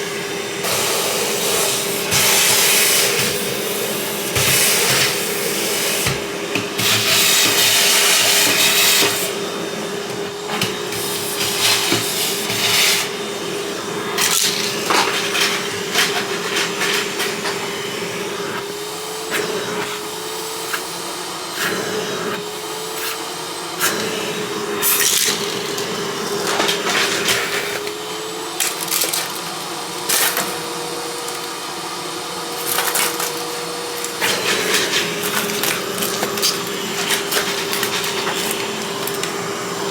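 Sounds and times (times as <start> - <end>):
vacuum cleaner motor: 0.0 - 39.9.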